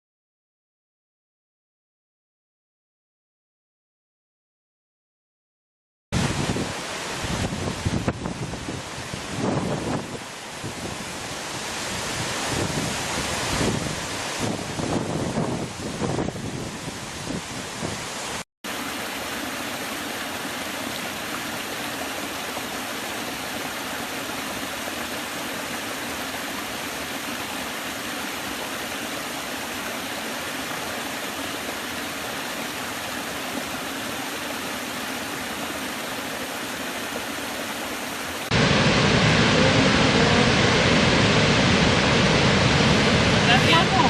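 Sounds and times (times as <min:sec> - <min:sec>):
waterfall rushing: 0:06.2 - 0:44.0.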